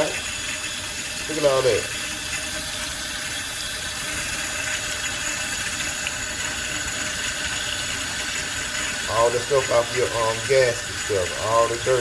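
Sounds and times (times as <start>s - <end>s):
tap water splashing into sink: 0.0s - 12.0s.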